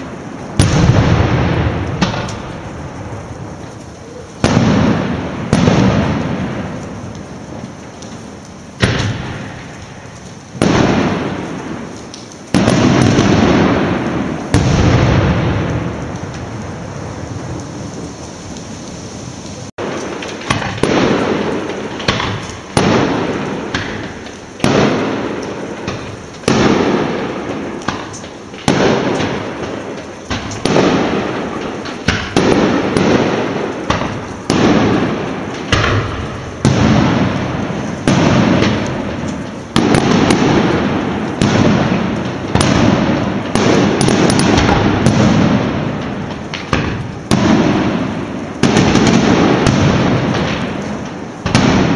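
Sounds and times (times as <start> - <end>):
firework bangs: 0.0 - 51.9.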